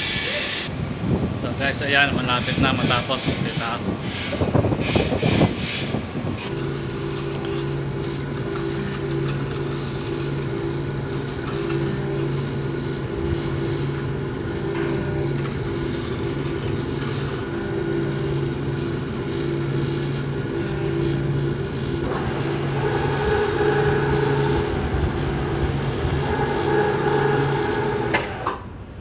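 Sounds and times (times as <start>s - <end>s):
deck crane humming: 0.0s - 29.0s.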